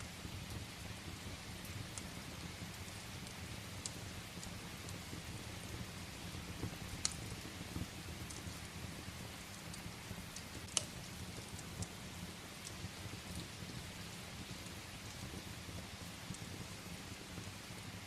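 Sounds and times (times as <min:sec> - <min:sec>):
steady rain hiss: 0:00.0 - 0:18.0
wood fire crackling: 0:00.0 - 0:18.0.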